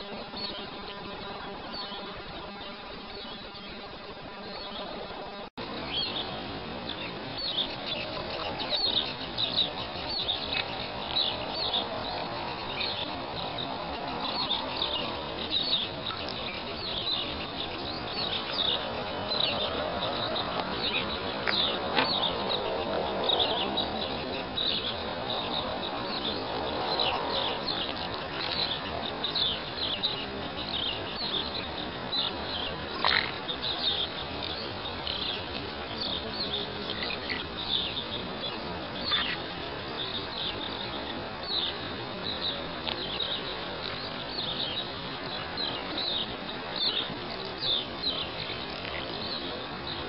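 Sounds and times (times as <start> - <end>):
small birds chirping: 0.0 - 50.0
steady background hiss: 0.0 - 50.0.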